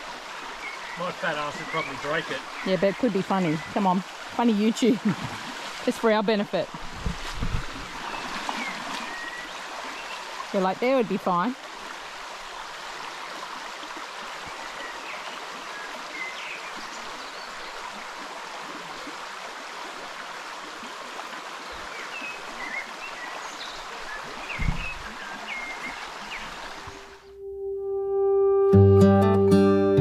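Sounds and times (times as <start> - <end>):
stream water rushing: 0.0 - 27.3.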